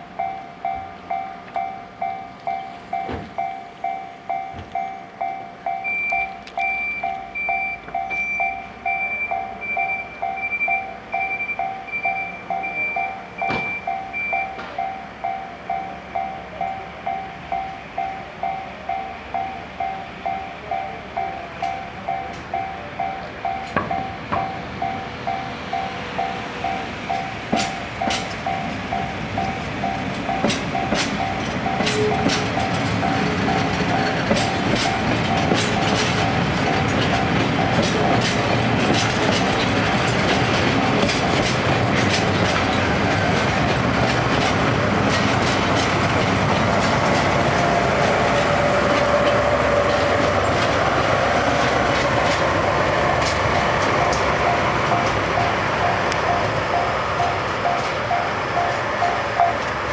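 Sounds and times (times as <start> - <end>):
level crossing warning bell: 0.0 - 44.7, 45.4 - 59.9
train running noise: 0.0 - 59.9
train wheel clicks: 11.6 - 59.9.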